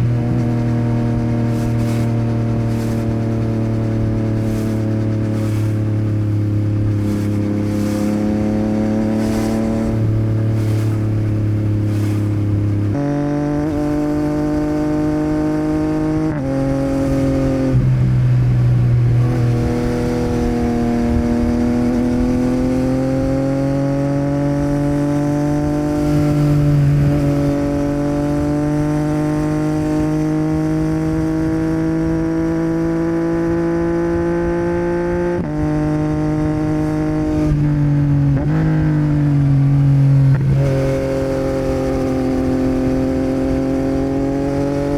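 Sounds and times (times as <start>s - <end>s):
motorcycle engine changing gears: 0.0s - 44.9s
road and wind rumble: 0.0s - 44.9s.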